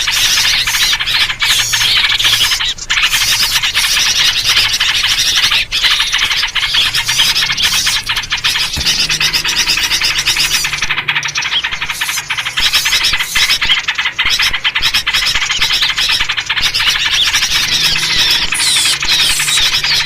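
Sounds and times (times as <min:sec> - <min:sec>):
bulbul calls: 0:00.0 - 0:20.0
small birds chattering: 0:00.0 - 0:20.0.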